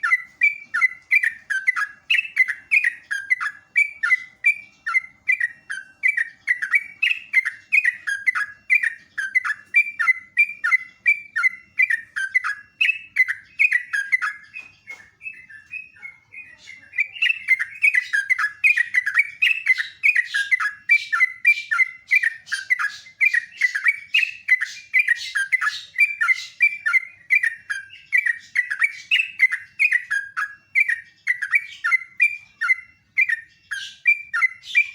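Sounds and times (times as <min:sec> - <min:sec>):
bird singing rapid chirps: 0:00.0 - 0:34.9.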